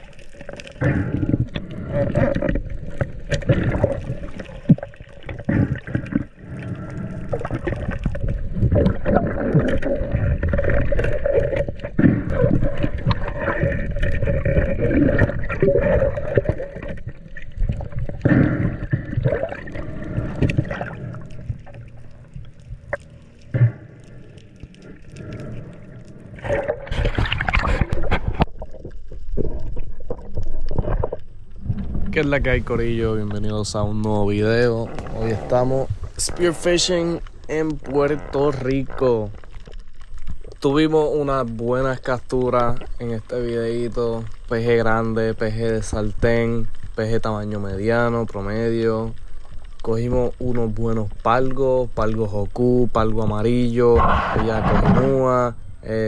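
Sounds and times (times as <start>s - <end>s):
knocks and clicks underwater: 0.0s - 40.8s, 49.3s - 55.6s
underwater rushing: 0.0s - 56.0s.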